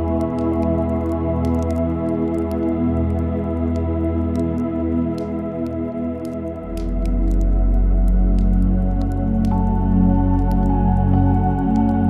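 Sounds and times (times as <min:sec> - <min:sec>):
ambient music with held notes: 0:00.0 - 0:12.0
wood fire crackling: 0:00.0 - 0:12.0.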